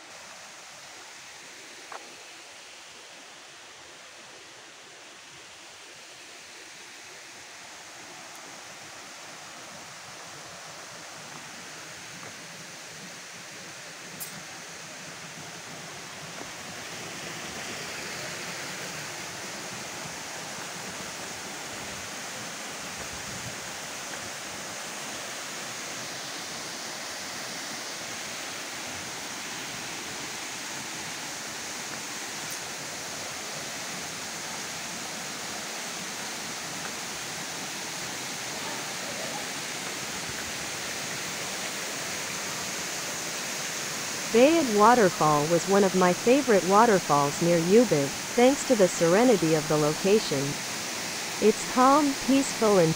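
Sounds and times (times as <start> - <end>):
waterfall rushing water: 0.0 - 52.9.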